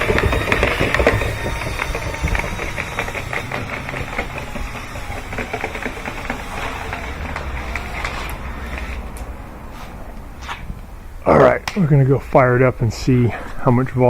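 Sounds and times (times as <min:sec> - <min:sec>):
rotary brush motor hum: 0:00.0 - 0:11.3
rods rattling against duct: 0:00.0 - 0:14.0.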